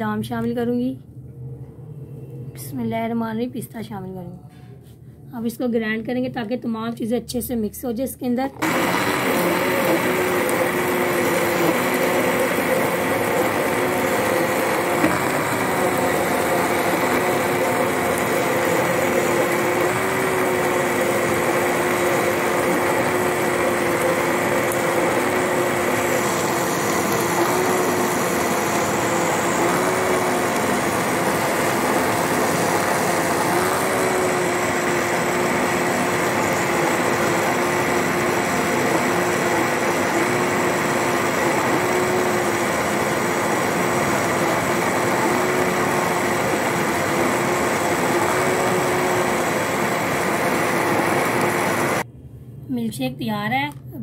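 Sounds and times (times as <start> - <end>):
electric blender running: 8.6 - 52.1.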